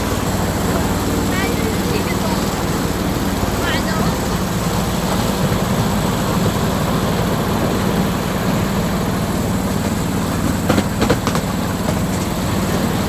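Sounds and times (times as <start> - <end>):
miniature train rumbling: 0.0 - 13.0
train wheels clacking: 0.0 - 13.0.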